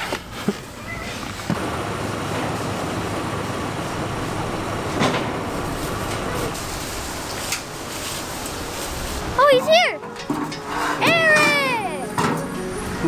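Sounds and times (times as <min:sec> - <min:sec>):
vehicle engine rumbling: 0:01.2 - 0:13.0.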